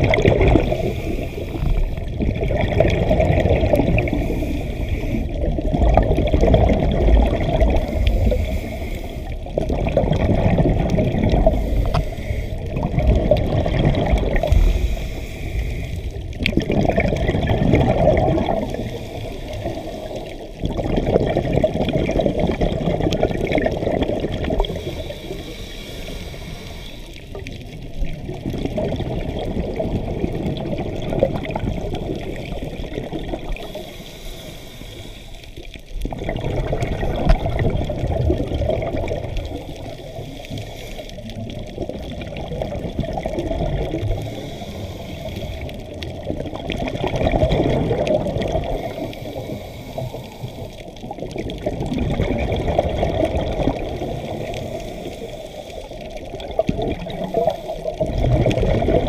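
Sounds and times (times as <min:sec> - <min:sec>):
underwater bubbles gurgling: 0:00.0 - 0:59.0.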